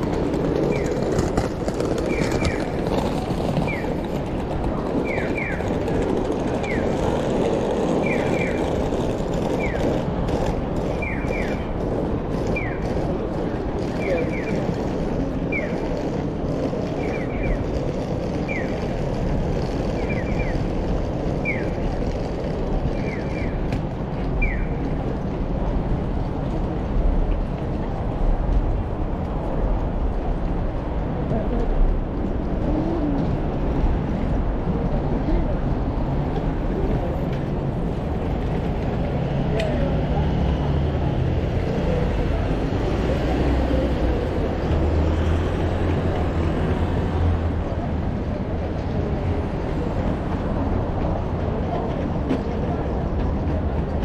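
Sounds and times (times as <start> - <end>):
crowd noise: 0.0 - 54.0
low rumble of traffic: 0.0 - 54.0
street noise: 0.0 - 54.0.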